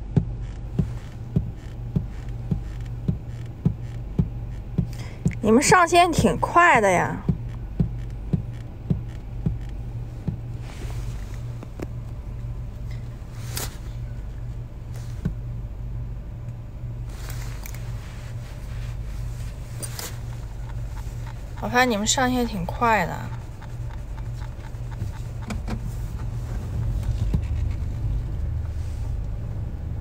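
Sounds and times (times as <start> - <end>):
car cabin hum: 0.0 - 30.0.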